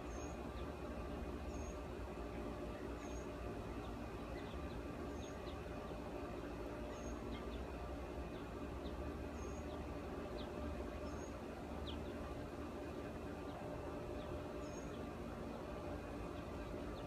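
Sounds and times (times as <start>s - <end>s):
motorized shade humming: 0.0s - 17.0s.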